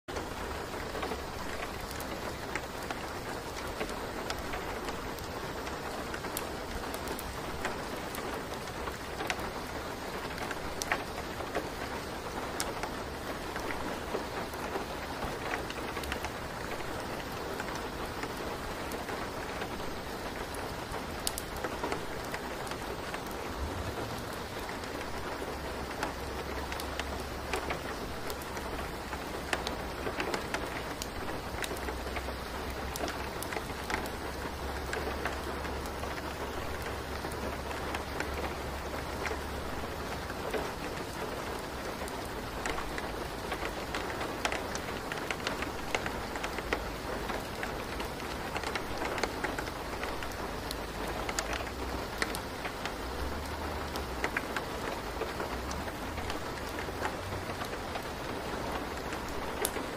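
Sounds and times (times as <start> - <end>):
steady rain falling: 0.1 - 59.9.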